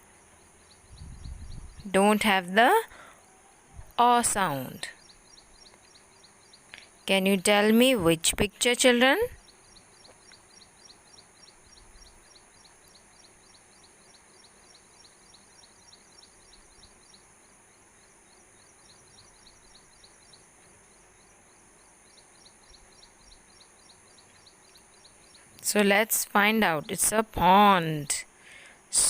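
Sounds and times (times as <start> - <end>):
steady high hiss: 0.0 - 29.0.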